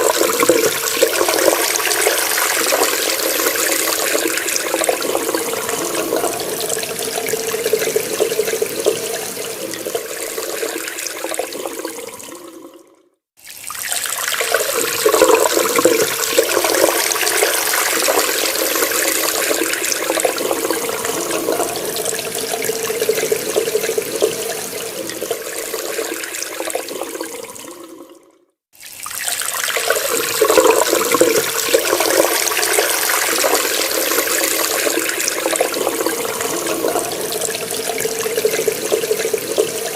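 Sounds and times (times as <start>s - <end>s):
water running from a tap: 0.0s - 28.2s, 28.8s - 39.9s.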